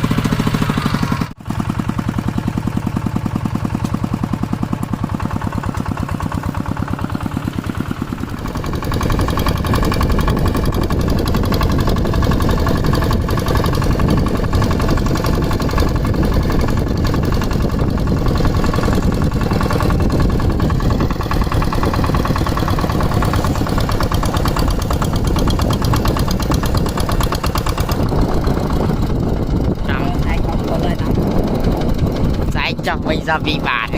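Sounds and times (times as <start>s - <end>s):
diesel tractor engine running: 0.0s - 33.9s.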